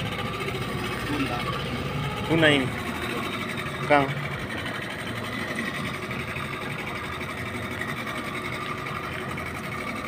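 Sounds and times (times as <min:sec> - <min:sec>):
fishing reel whirring: 0:00.0 - 0:10.0.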